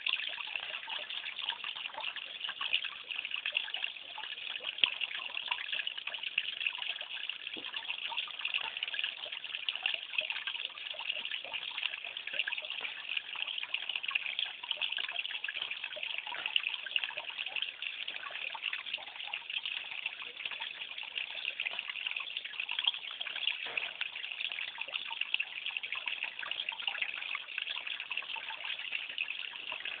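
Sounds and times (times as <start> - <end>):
water trickling and splashing: 0.0 - 30.0.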